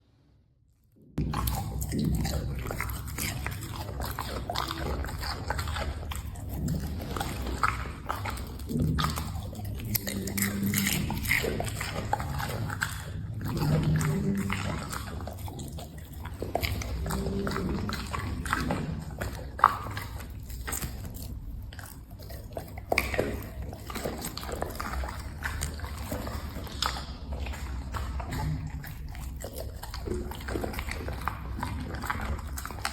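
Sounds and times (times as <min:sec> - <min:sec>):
dog chewing food: 0:01.2 - 0:32.9.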